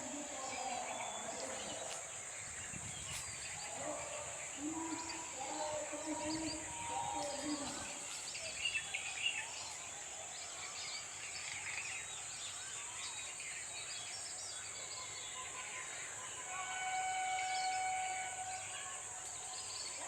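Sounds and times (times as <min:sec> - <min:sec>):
small birds chirping: 0:00.0 - 0:16.8, 0:17.4 - 0:20.0
steady high hiss: 0:00.0 - 0:20.0.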